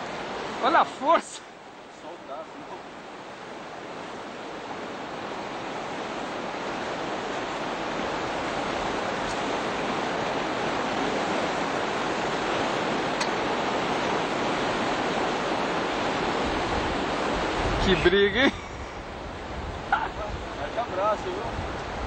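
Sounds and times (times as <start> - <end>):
fast-flowing river water: 0.0 - 22.0.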